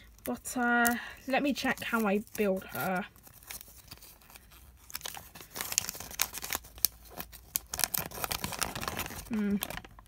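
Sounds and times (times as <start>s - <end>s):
paper leaflet rustling: 0.0s - 10.0s.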